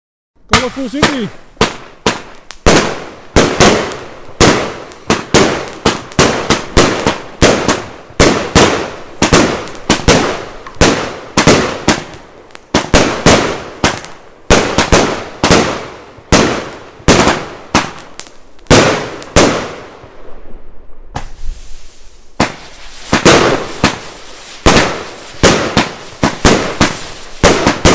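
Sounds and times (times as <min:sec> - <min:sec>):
firework bangs with echo: 0:00.5 - 0:20.1, 0:21.1 - 0:27.9.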